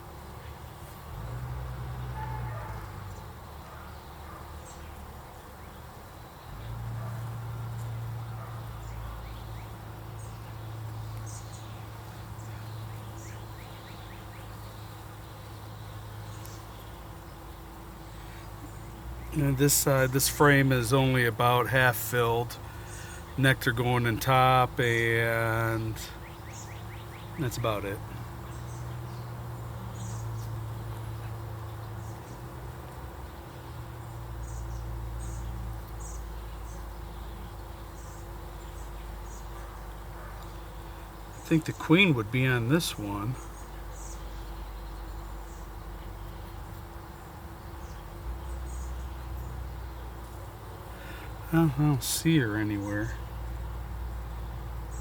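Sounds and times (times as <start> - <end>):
honey bees humming: 0.0 - 55.0
small birds chirping: 0.0 - 55.0.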